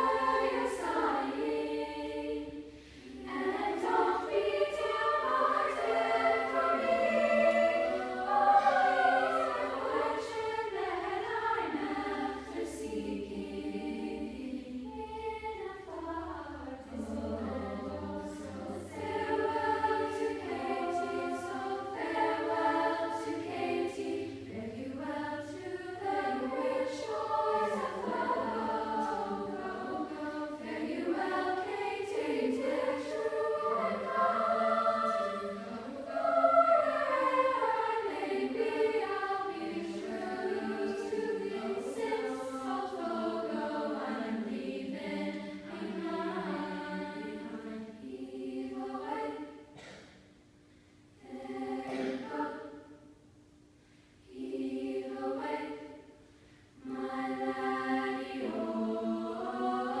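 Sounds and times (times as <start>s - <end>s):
women singing in harmony: 0.0s - 50.0s, 51.2s - 53.0s, 54.3s - 56.1s, 56.8s - 60.0s.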